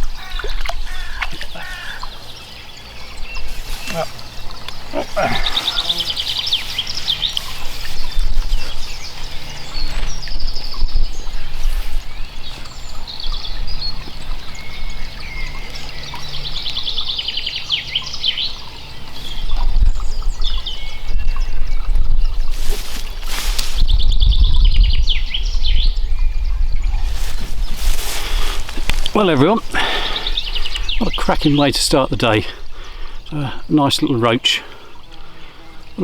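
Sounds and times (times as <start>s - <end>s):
songbirds singing with trills: 0.0s - 36.0s.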